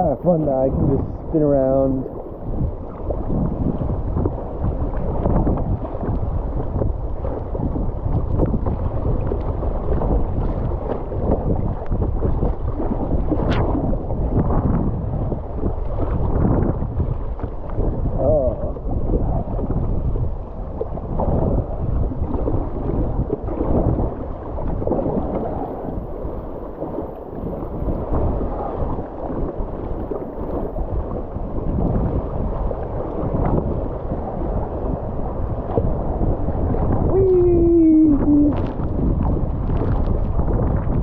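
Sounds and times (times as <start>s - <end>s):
river water rushing and splashing: 0.0s - 41.0s
wind buffeting microphone: 0.0s - 41.0s.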